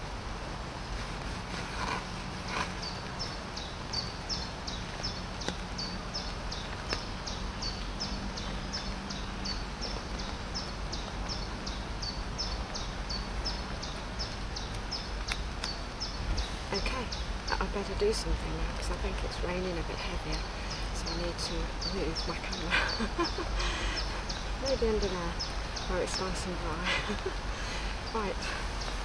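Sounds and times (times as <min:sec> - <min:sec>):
light rain patter: 0:00.0 - 0:29.0
bird calling: 0:01.8 - 0:29.0.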